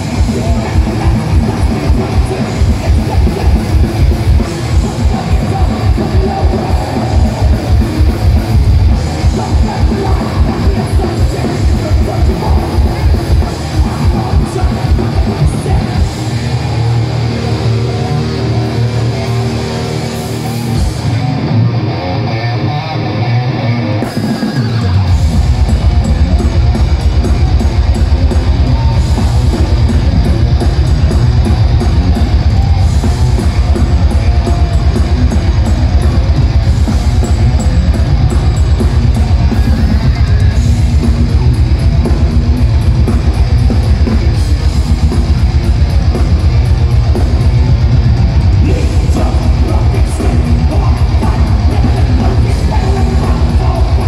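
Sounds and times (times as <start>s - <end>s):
bass guitar: 0.0s - 54.0s
distorted electric guitars: 0.0s - 54.0s.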